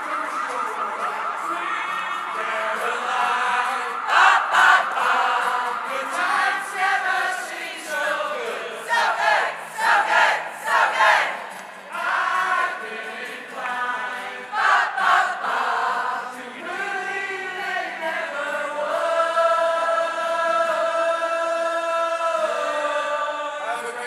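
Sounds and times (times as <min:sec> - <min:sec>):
crowd choir singing in unison: 0:01.2 - 0:24.0.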